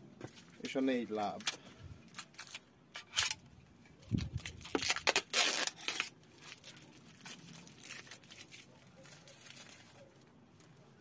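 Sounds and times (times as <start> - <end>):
packaging crinkling and rustling: 0.3 - 10.9.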